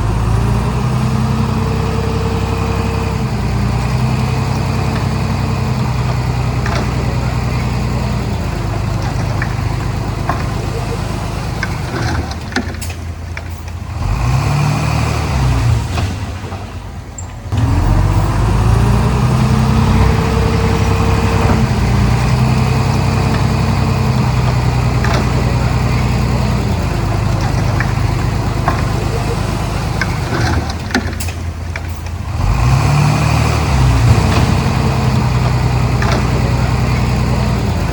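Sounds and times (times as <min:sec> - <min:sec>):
bulldozer diesel engine revving: 0:00.0 - 0:37.9.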